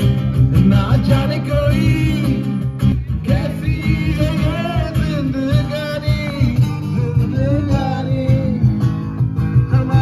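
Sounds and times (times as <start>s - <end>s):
guitar: 0.0s - 10.0s.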